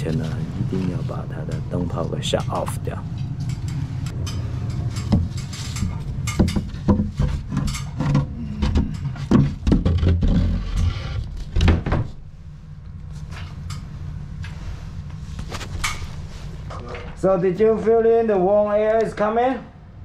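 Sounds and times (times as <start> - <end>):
low hum: 0.0 - 18.6.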